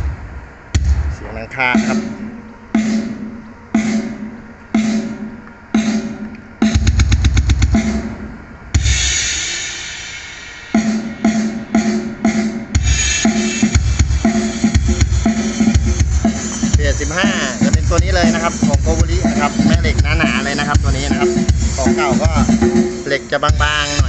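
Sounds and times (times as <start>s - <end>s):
cymbal crash: 0.0s - 23.1s
drum roll: 0.0s - 24.0s
loud drum-heavy music: 0.0s - 24.0s.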